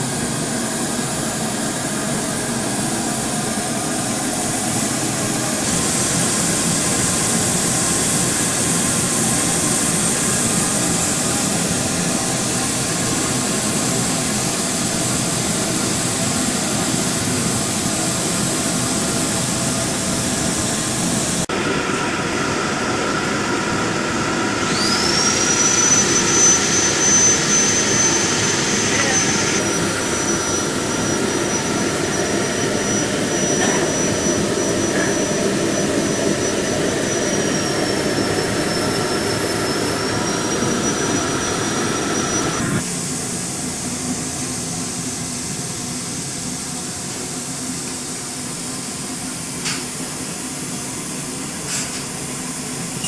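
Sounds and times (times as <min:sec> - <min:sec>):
high-pitched motor whine: 0:00.0 - 0:53.0
loud machinery noise: 0:00.0 - 0:53.0.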